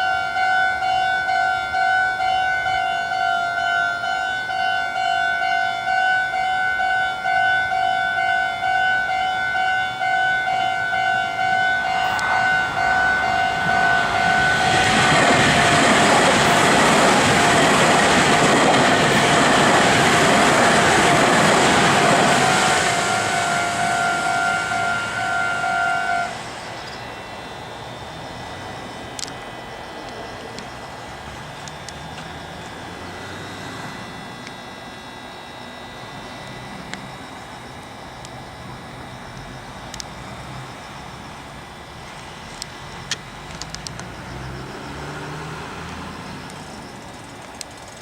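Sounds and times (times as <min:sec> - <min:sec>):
level crossing warning bells: 0:00.0 - 0:47.8
train passing: 0:00.0 - 0:48.0.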